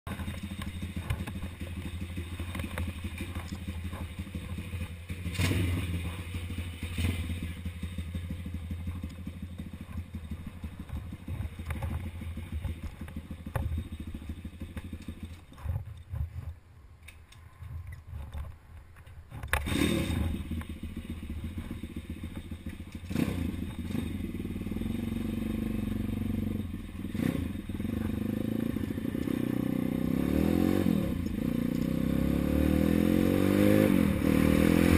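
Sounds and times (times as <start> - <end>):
dirt bike engine running: 0.1 - 16.4, 19.3 - 34.9.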